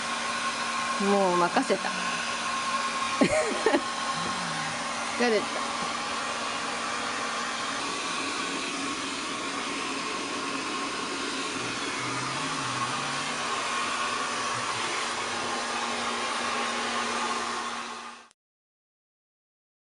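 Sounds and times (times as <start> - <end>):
hair dryer blowing: 0.0 - 18.4.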